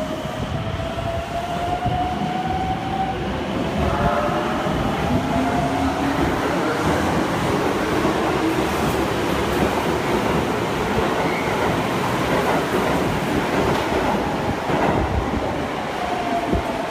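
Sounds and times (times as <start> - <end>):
train wheels running on rails: 0.0 - 16.9.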